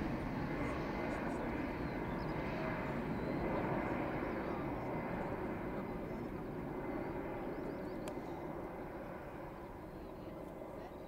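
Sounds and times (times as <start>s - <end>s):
jet engines roaring: 0.0s - 10.8s.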